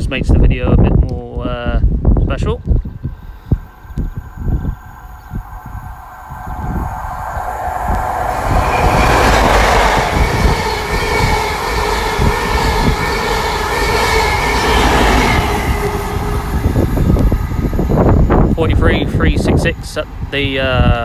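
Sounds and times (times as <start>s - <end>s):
diesel train engine passing: 2.9s - 20.3s.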